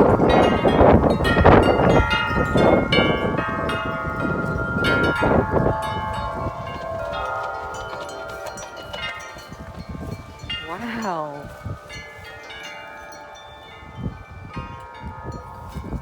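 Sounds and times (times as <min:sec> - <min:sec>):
large wind chimes ringing: 0:00.0 - 0:16.0
rushing wind: 0:00.0 - 0:16.0.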